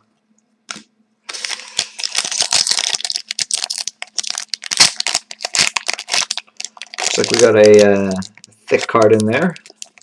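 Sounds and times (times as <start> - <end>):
foil wrapper crinkling: 1.3 - 10.0.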